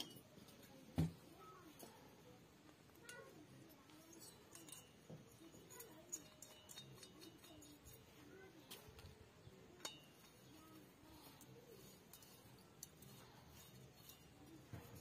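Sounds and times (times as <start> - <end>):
faint metal clicks and clinks: 0.0 - 15.0.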